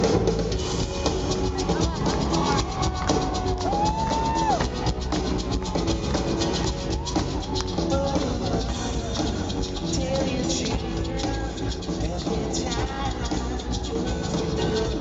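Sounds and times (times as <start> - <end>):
rock band playing: 0.0 - 15.0
shaker rattling: 0.6 - 15.0.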